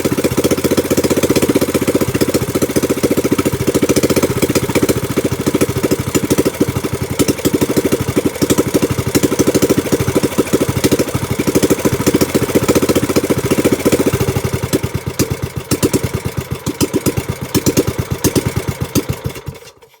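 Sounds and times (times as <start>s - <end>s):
small boat engine idling: 0.0s - 20.0s.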